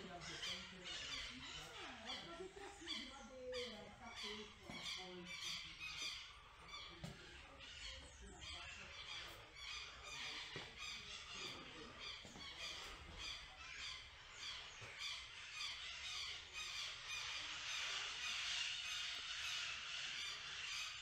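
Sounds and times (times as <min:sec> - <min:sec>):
birds chattering squawks: 0:00.0 - 0:21.0.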